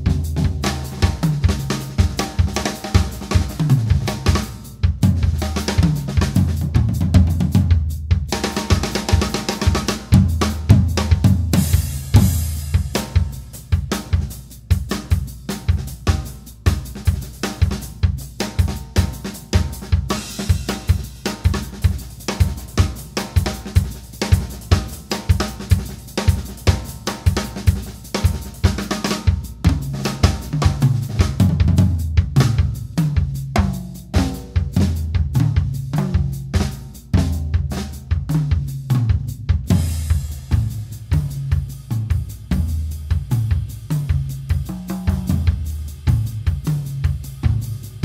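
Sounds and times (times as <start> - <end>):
drum kit playing fast: 0.0 - 48.0.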